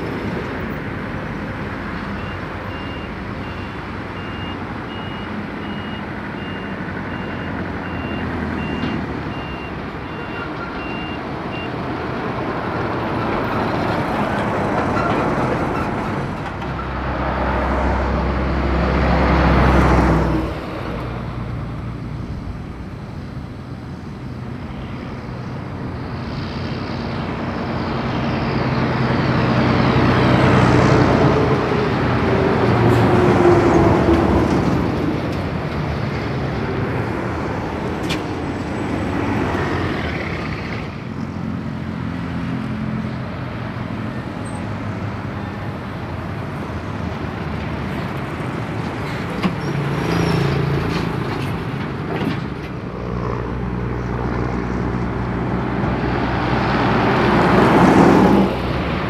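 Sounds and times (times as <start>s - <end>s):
lorries passing on highway: 0.0s - 59.0s.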